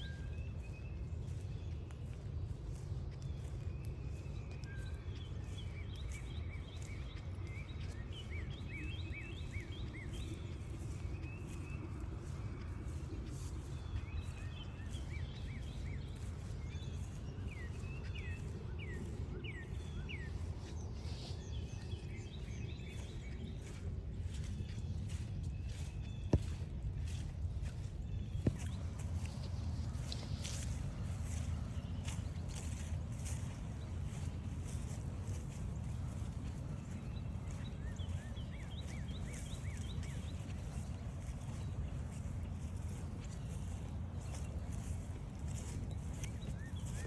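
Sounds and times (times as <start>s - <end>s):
steady low rumble: 0.0s - 47.0s
wild birds singing: 0.0s - 47.0s.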